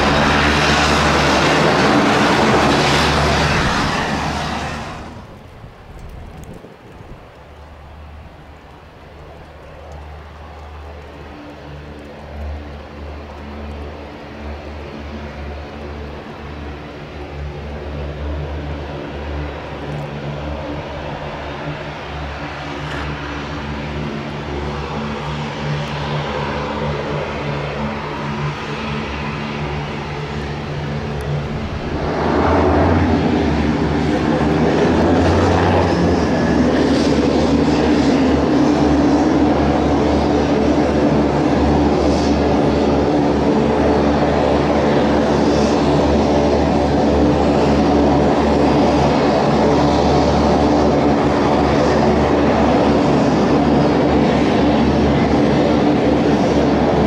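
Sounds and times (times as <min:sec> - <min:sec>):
turboprop propeller drone: 0:00.0 - 0:57.0.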